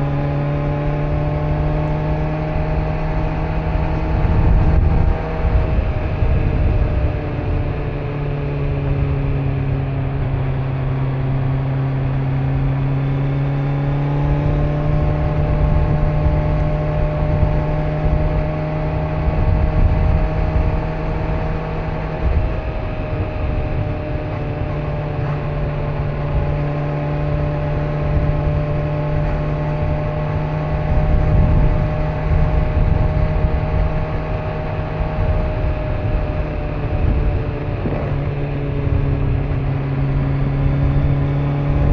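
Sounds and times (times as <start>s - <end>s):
motorcycle engine running: 0.0s - 41.9s
wind and road rumble: 0.0s - 41.9s.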